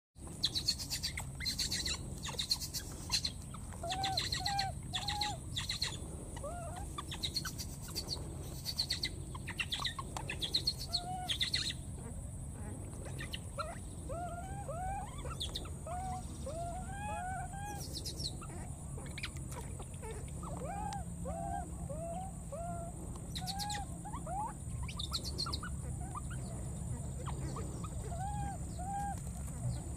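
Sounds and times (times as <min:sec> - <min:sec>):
faint high hum: 0:00.2 - 0:29.9
baby monkeys squeaky coo calls: 0:00.4 - 0:29.8.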